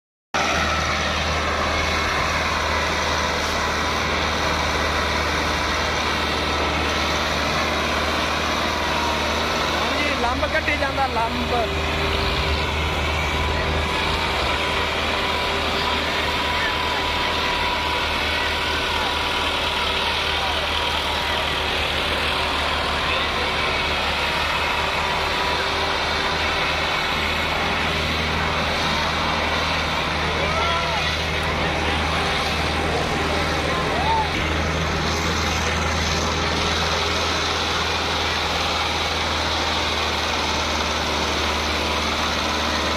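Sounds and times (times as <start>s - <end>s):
tractor diesel engine running: 0.4s - 42.9s.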